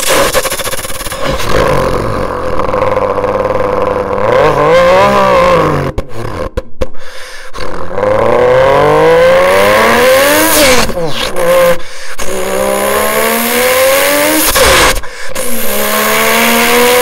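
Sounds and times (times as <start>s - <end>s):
man imitating car engine revving: 0.0s - 6.7s, 7.5s - 17.0s.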